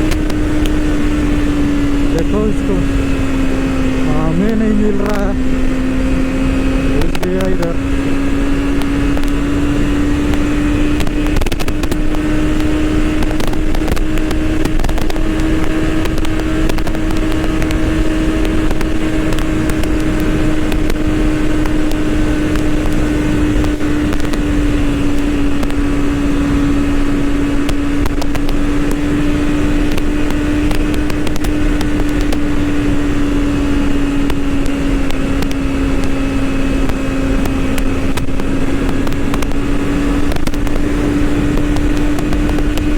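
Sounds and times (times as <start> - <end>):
motorcycle engine cruising: 0.0 - 42.9
wind noise: 0.0 - 42.9.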